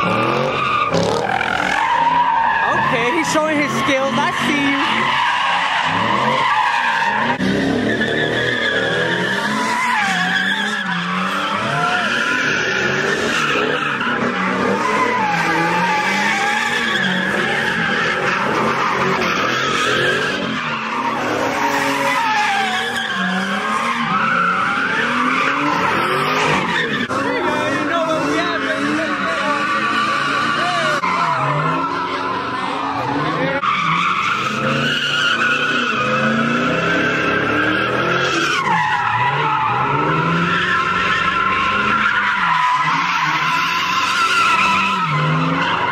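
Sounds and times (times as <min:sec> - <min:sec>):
car engine revving: 0:00.0 - 0:45.9
tyres squealing and skidding: 0:00.0 - 0:45.9.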